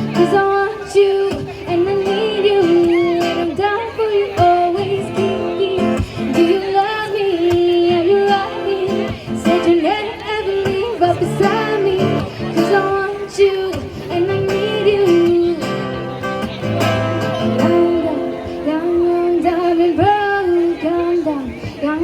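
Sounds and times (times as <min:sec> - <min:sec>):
guitar accompaniment: 0:00.0 - 0:22.0
woman singing pop song: 0:00.0 - 0:22.0.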